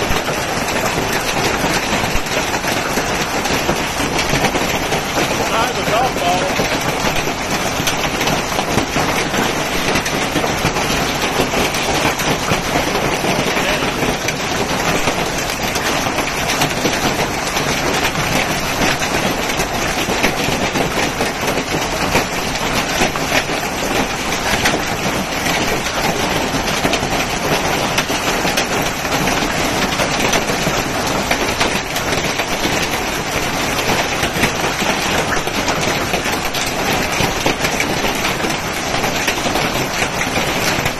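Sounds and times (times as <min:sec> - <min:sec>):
hail pattering on pavement: 0:00.0 - 0:40.9
heavy rain: 0:00.0 - 0:40.9.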